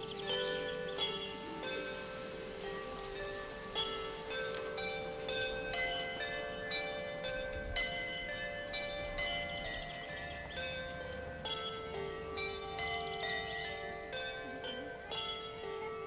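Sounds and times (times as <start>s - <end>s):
bell-like chiming notes: 0.0s - 16.0s.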